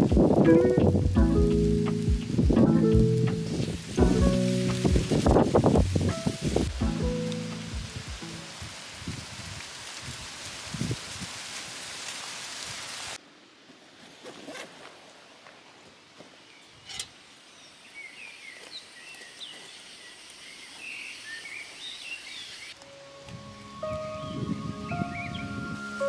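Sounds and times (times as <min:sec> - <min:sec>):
rain hiss: 0:00.0 - 0:13.6, 0:17.2 - 0:26.0
outdoor ambience: 0:00.0 - 0:26.0.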